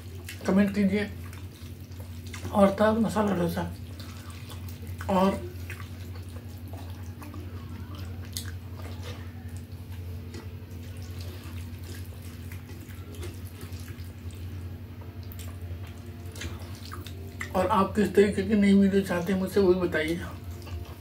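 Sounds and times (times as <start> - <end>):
fingers mixing wet rice: 0.0 - 21.0
steady low hum: 0.0 - 21.0.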